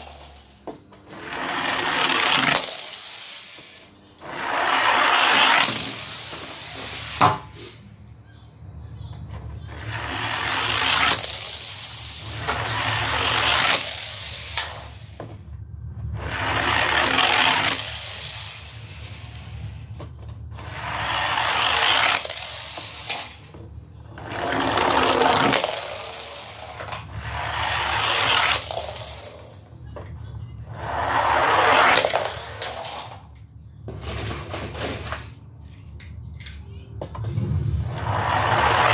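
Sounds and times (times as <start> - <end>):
toy cars rolling and rattling: 0.0 - 7.3, 9.7 - 15.4, 16.1 - 35.4, 37.8 - 38.9.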